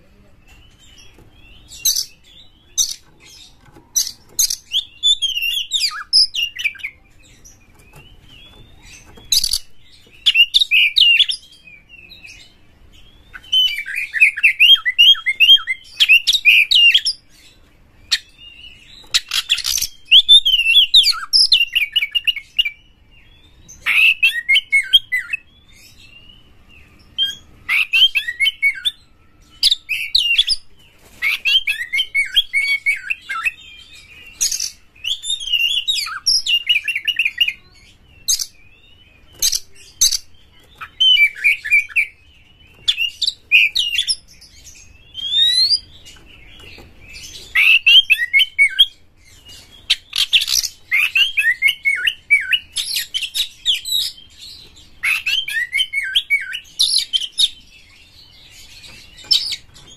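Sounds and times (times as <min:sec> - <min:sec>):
magpie-robin singing: 0:00.0 - 0:59.9.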